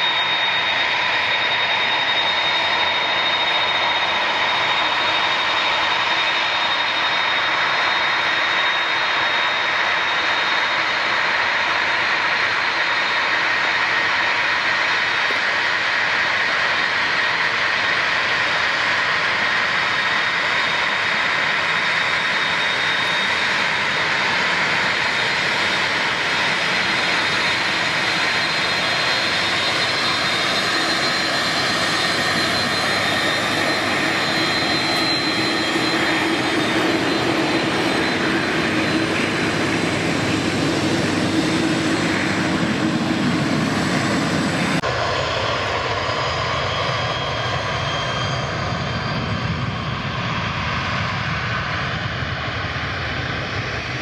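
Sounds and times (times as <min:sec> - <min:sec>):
engine whine: 0:00.0 - 0:54.0
jet engines roaring: 0:00.0 - 0:54.0.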